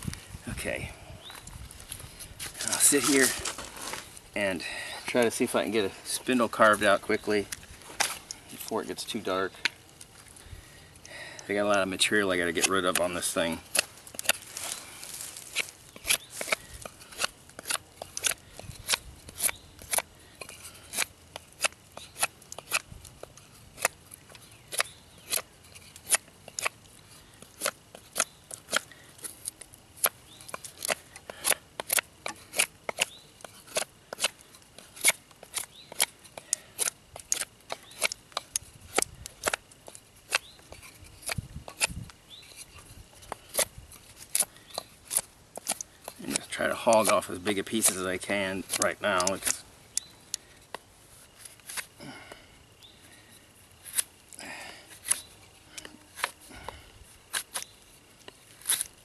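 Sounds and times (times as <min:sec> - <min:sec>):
knife shaving wood: 0:02.2 - 0:04.5, 0:05.1 - 0:59.0.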